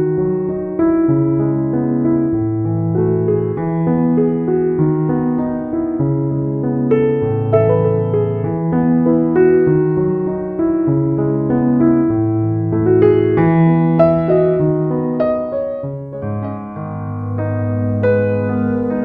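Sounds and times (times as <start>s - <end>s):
slow keyboard chords: 0.0s - 19.0s.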